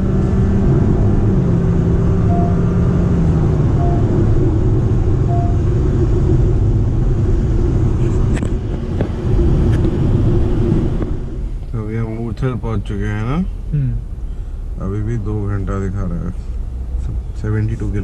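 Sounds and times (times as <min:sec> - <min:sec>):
car road and tyre rumble: 0:00.0 - 0:18.0.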